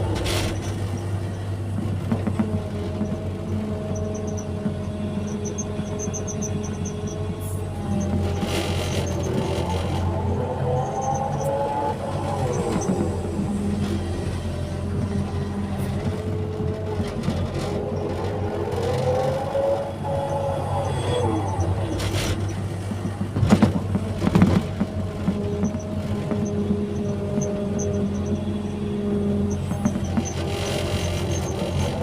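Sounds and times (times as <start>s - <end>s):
excavator diesel engine: 0.0s - 32.0s
hydraulics whining: 0.0s - 32.0s.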